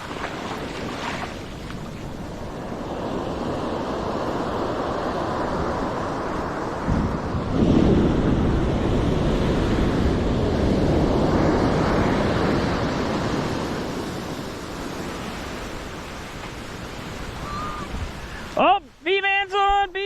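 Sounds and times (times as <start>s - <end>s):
wind on microphone: 0.0s - 18.6s
ocean surf breaking: 0.0s - 20.0s.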